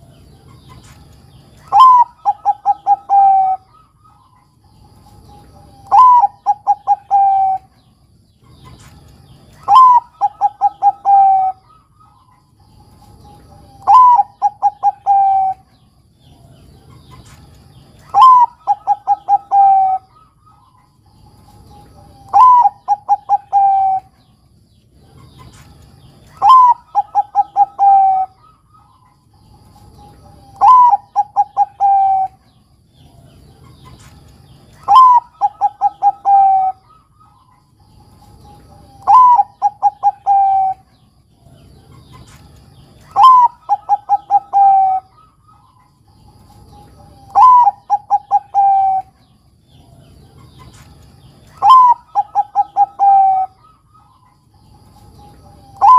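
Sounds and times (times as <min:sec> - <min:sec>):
dove cooing: 0:01.4 - 0:55.9.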